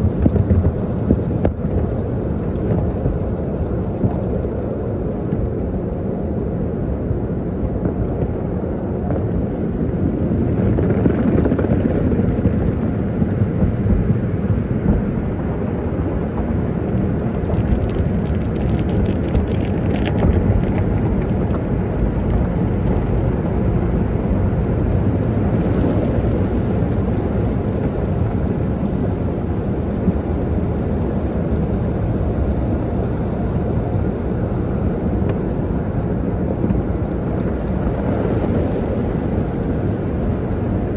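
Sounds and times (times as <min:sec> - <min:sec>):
car wash water rumble: 0:00.0 - 0:40.9.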